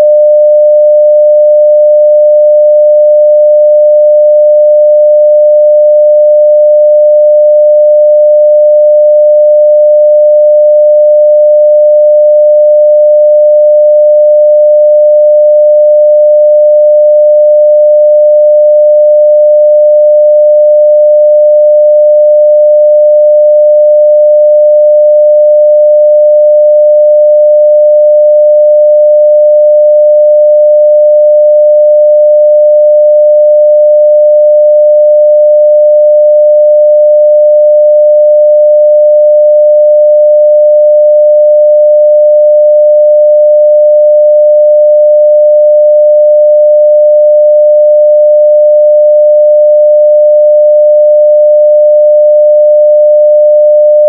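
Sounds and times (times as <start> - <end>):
steady sine test tone: 0.0 - 54.0.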